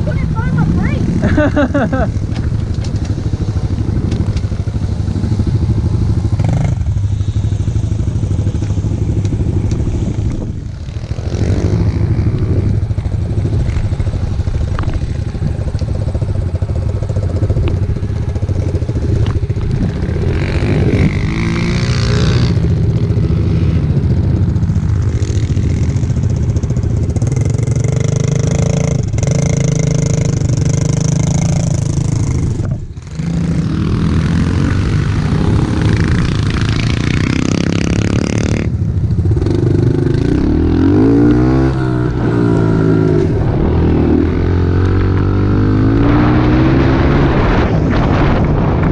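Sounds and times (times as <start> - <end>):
pit bike engine revving: 0.0 - 48.8.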